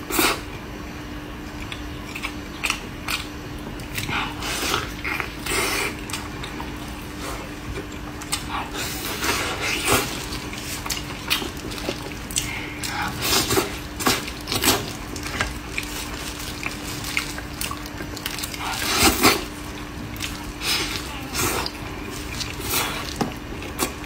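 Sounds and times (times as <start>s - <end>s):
faint steady hum: 0.0s - 24.0s
wet chewing of meat: 0.1s - 24.0s.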